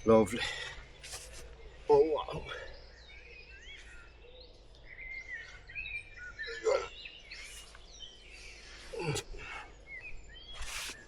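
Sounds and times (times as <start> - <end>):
faint outdoor background: 0.0 - 11.0
small birds chirping: 0.0 - 11.0.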